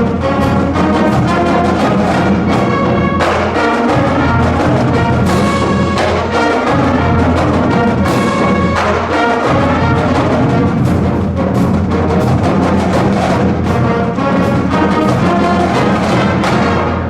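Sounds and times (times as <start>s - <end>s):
heavy drums: 0.0s - 17.0s
marching band brass: 0.0s - 17.0s.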